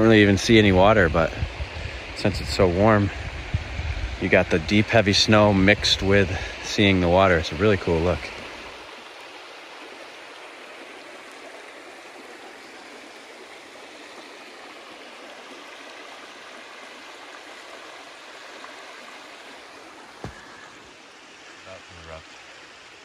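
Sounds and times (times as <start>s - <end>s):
river flowing over rocks: 4.6s - 23.0s.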